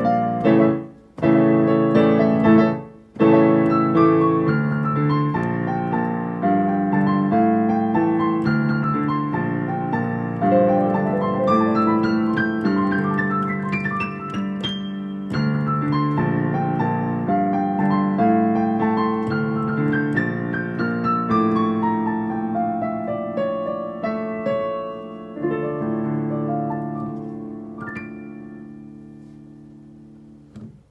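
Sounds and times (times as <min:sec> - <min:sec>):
piano playing quick notes: 0:00.0 - 0:30.9.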